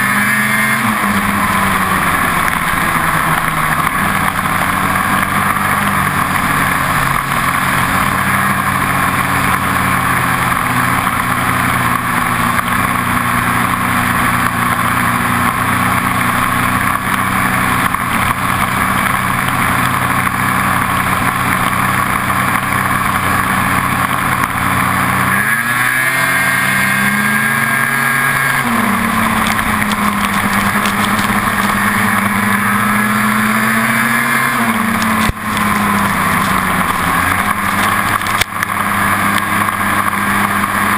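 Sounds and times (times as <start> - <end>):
snowmobile engine running: 0.0 - 40.9
track noise: 0.0 - 40.9.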